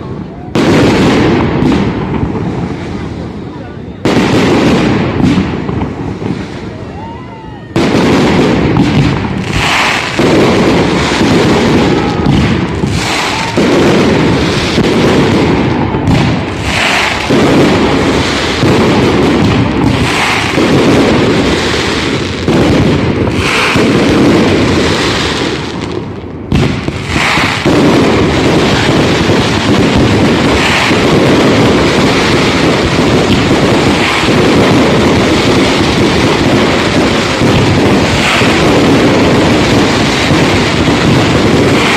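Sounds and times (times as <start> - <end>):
fireworks rumble and crackle: 0.0 - 41.9
firework shells bursting: 7.8 - 41.9.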